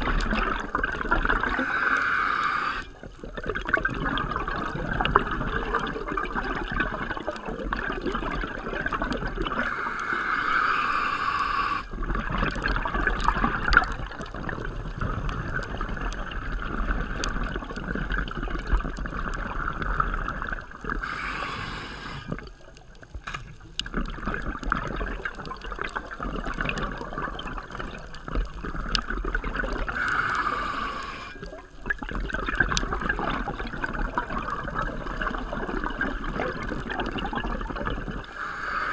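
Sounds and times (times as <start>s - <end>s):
regulator bubbles underwater: 0.0s - 38.9s
steady water noise: 0.0s - 38.9s.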